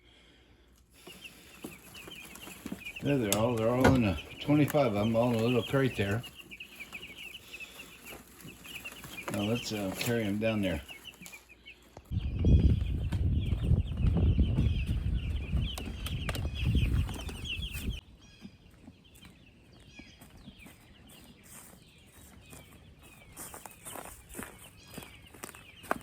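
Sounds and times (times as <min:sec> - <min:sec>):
chicks peeping and clucking: 0:00.0 - 0:26.0.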